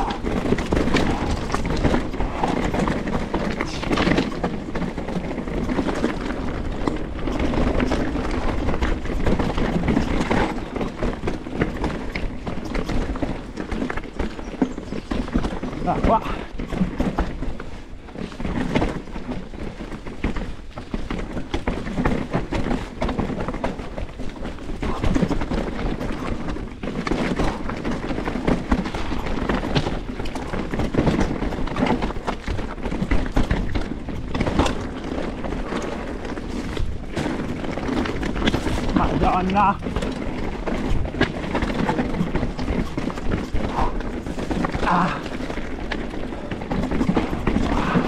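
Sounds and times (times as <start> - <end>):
mountain bike rattling: 0.0 - 48.0.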